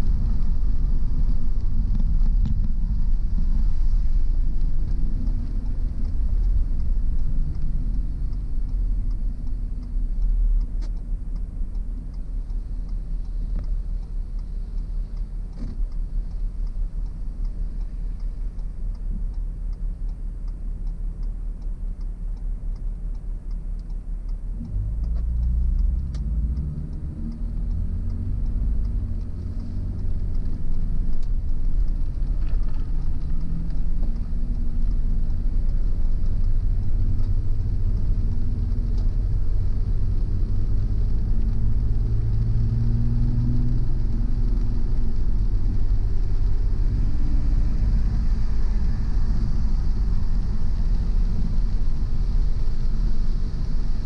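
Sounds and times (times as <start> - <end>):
car engine and tyres rumbling: 0.0 - 54.0
faint rapid ticking: 0.2 - 54.0.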